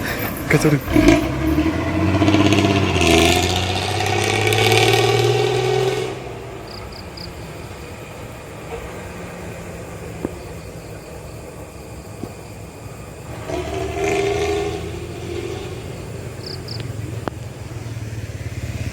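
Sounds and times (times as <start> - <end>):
diesel engine accelerating: 0.0 - 18.9
road background noise: 0.0 - 18.9.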